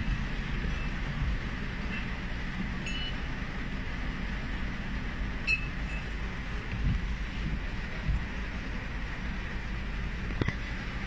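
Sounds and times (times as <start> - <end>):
low engine rumble inside vehicle: 0.0 - 11.0.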